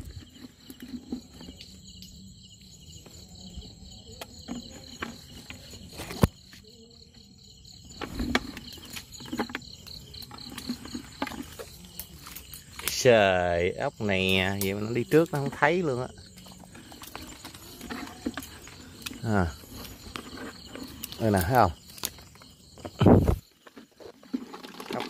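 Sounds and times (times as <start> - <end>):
insects chirping trill: 0.0 - 25.0.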